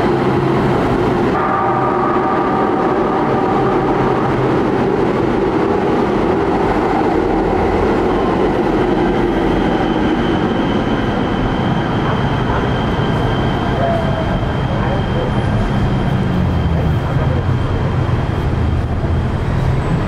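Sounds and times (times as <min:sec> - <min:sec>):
train wheels rumbling on rails: 0:00.0 - 0:20.0
train whining tones: 0:00.0 - 0:20.0.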